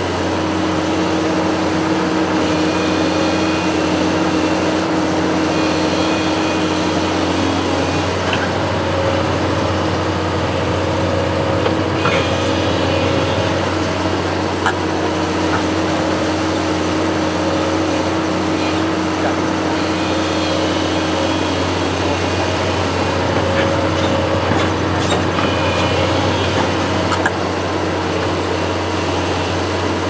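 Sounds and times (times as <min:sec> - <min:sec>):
construction machine engine humming: 0:00.0 - 0:30.0.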